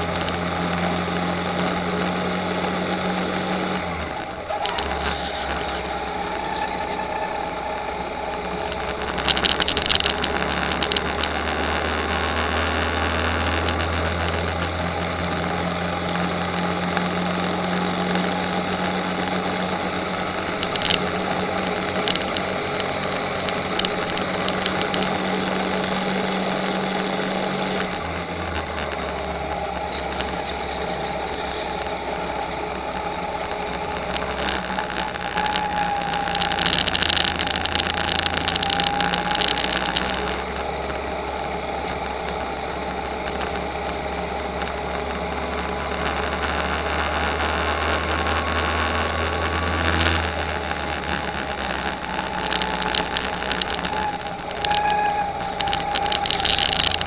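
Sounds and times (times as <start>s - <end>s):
sharp clicks: 0.0s - 1.0s, 3.7s - 7.6s, 8.2s - 12.5s, 13.2s - 15.4s, 18.0s - 45.0s, 49.4s - 57.0s
go-kart engine running: 0.0s - 57.0s.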